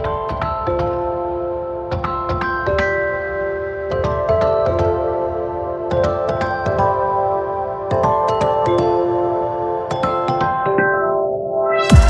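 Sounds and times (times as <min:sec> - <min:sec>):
soft ambient instrumental music: 0:00.0 - 0:12.0.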